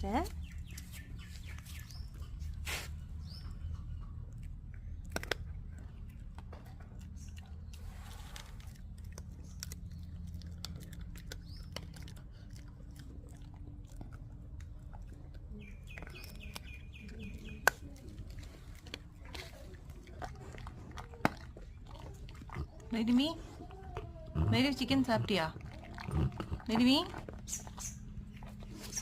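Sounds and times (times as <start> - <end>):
dog chewing and crunching food: 0.3 - 29.0.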